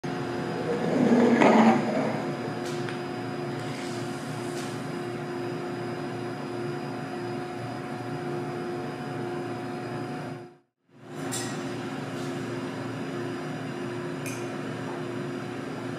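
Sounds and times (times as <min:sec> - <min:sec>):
mechanical hum of equipment: 0:00.0 - 0:15.9.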